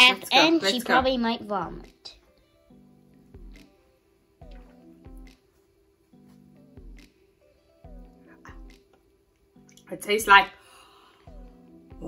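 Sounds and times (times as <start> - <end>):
faint music with ringing notes: 0.0 - 12.0.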